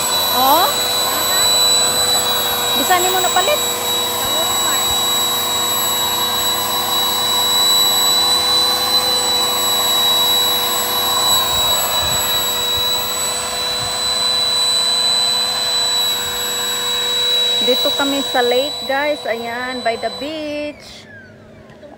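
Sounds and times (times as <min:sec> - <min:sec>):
electric air pump whining: 0:00.0 - 0:21.3.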